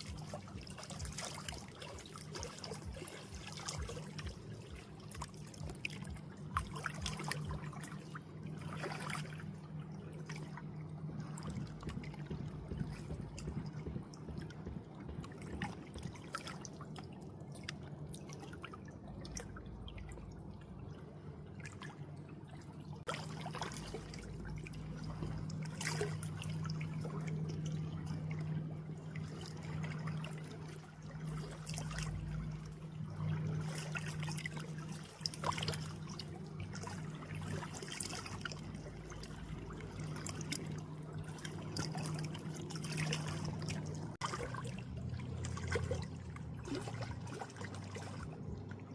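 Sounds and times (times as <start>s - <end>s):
low hum: 0.0s - 48.9s
water trickling and dripping: 0.0s - 48.9s.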